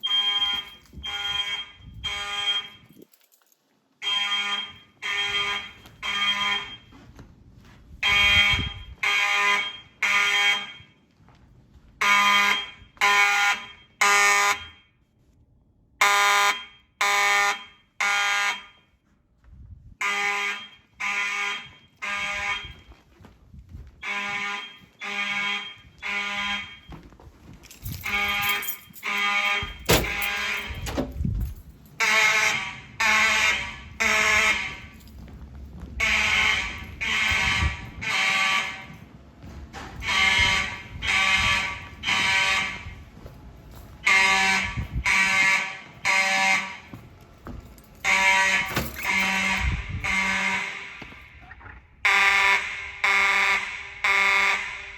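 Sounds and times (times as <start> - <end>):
buzzy fire alarm horns: 0.0 - 3.0, 4.0 - 7.1, 8.0 - 11.1, 12.0 - 15.0, 16.0 - 19.0, 19.8 - 23.1, 23.7 - 27.1, 27.8 - 47.1, 47.8 - 54.9.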